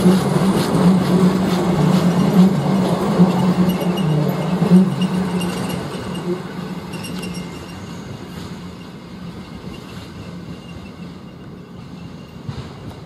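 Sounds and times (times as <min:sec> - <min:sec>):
diesel freight train passing: 0:00.0 - 0:13.0.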